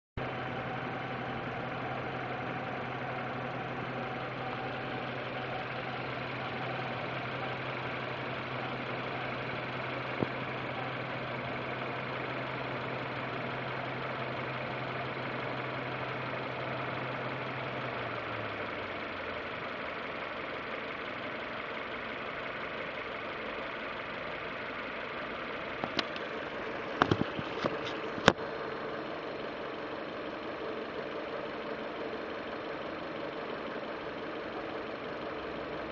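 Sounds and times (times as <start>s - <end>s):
car engine idling: 0.2s - 35.9s.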